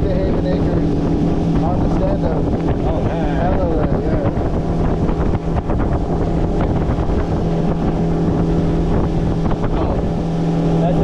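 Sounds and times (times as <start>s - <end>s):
motorboat engine humming: 0.0s - 11.0s
wind buffeting microphone: 0.0s - 11.0s.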